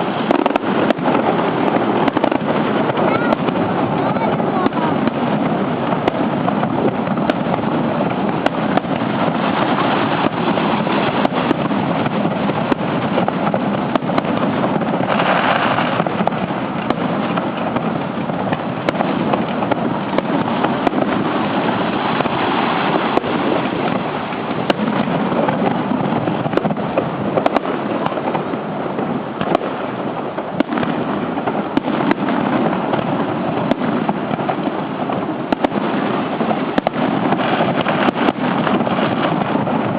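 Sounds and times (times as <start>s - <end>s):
fireworks bursts and pops: 0.0s - 39.9s.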